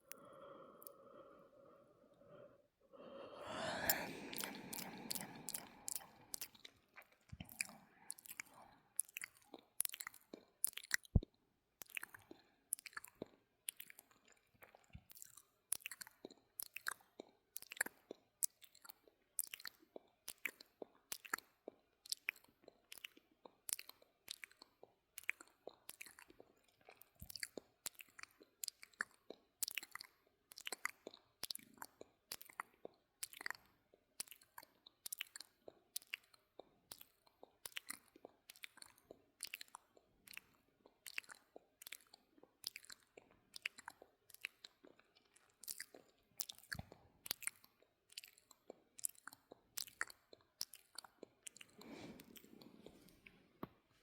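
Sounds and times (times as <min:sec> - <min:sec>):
wet mouth clicks and smacks: 0:03.5 - 0:53.8.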